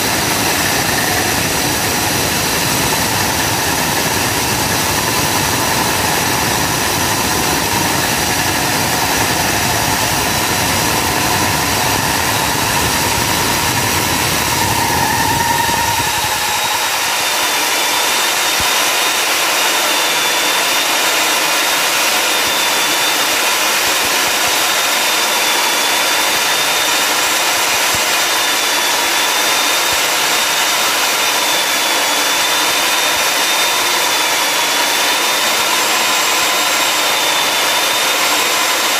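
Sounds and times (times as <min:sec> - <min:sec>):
core drill motor whine: 0:00.0 - 0:38.9
drill bit grinding into tile: 0:05.4 - 0:38.9.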